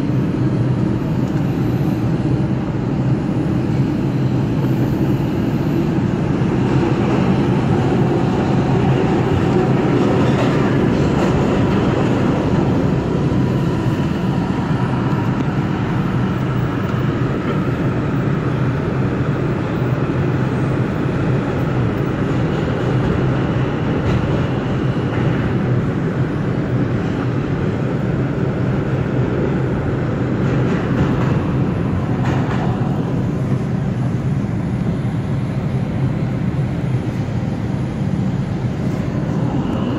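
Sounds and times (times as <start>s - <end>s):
subway train rumbling in tunnel: 0.0s - 39.9s.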